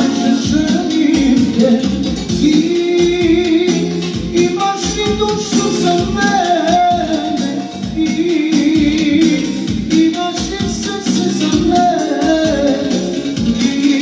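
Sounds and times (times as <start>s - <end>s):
live band music: 0.0s - 14.0s
man singing into a microphone: 0.0s - 14.0s
steady drum beat: 0.0s - 14.0s.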